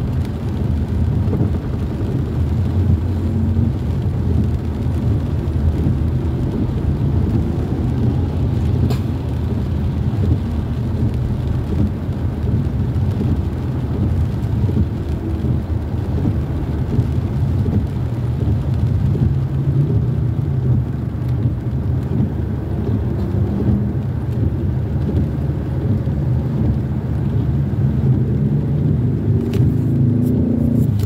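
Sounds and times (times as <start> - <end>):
car engine running: 0.0 - 31.0
rain on car: 0.0 - 31.0
tyres on wet road: 0.0 - 31.0.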